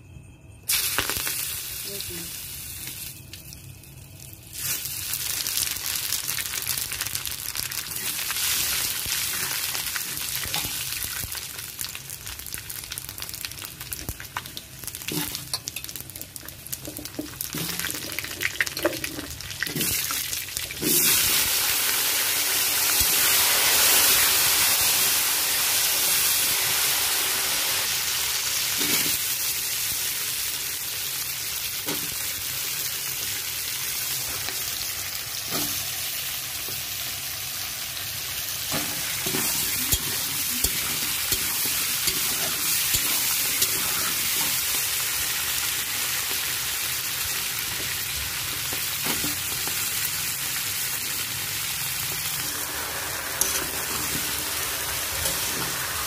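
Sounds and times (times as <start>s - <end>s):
spices sizzling in hot oil: 0.7s - 56.0s.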